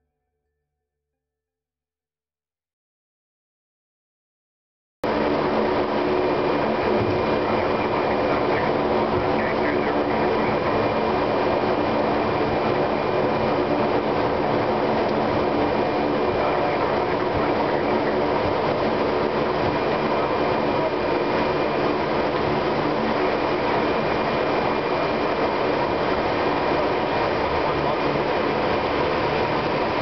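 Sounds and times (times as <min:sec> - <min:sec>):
turboprop engines droning: 0:05.0 - 0:30.0.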